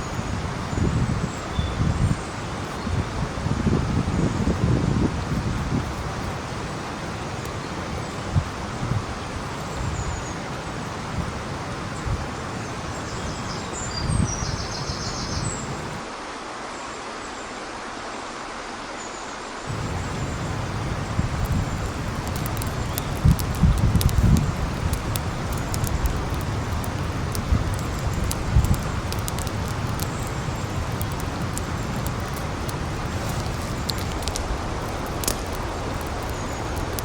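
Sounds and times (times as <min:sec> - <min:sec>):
wind buffeting microphone: 0:00.0 - 0:16.0, 0:19.7 - 0:37.0
steady rushing outdoor hiss: 0:00.0 - 0:37.0.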